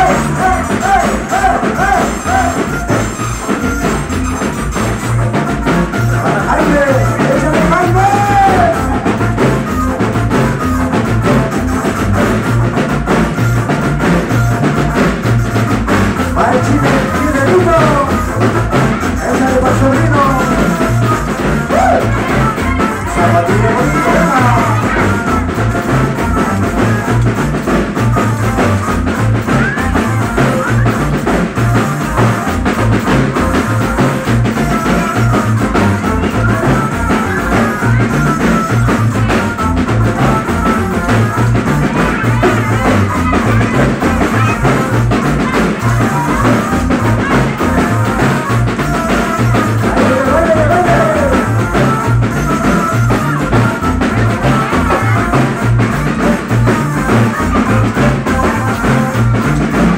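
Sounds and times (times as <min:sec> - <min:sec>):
loud dance music: 0:00.0 - 0:59.9.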